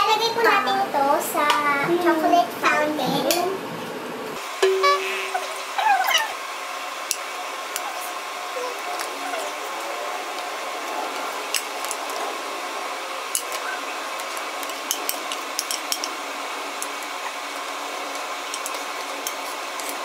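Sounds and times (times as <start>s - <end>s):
steady hum: 0.3s - 20.0s.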